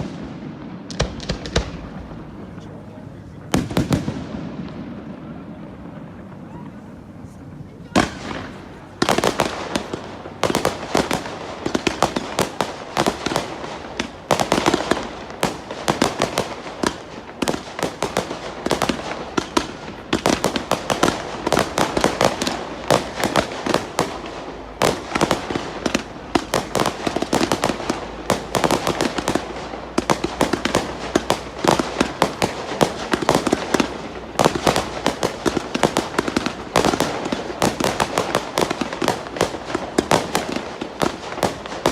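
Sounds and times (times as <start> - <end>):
fireworks cracks and bangs: 0.0 - 41.9.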